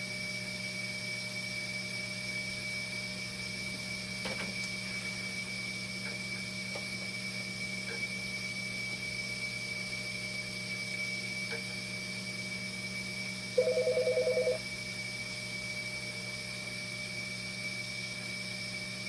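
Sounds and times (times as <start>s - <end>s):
machinery hum with high whine: 0.0s - 19.0s.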